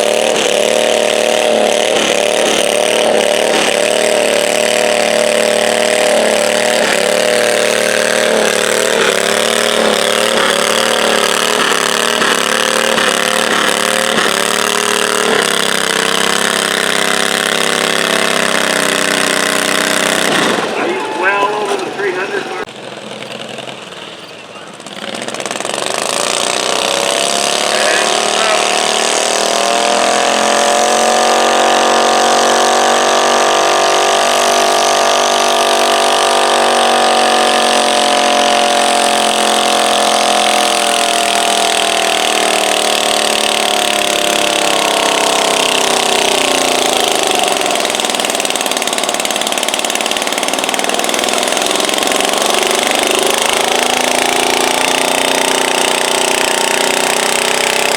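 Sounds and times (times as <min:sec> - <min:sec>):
garden tractor engine revving hard: 0:00.0 - 0:57.9.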